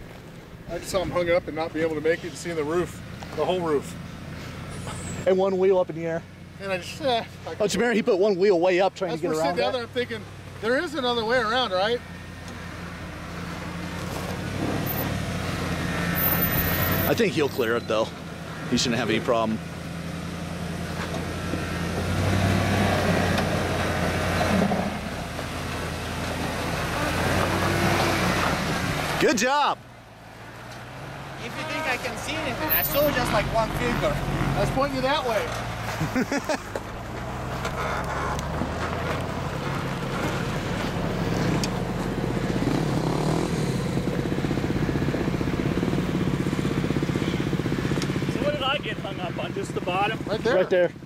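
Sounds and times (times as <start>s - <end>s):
vehicle engine at low revs: 0.0s - 51.0s.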